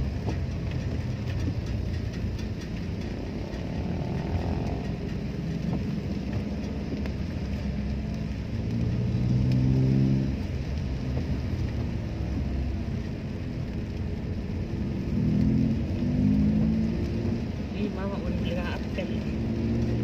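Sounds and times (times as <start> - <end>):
car engine rumble: 0.0 - 20.0
road noise inside car: 0.0 - 20.0.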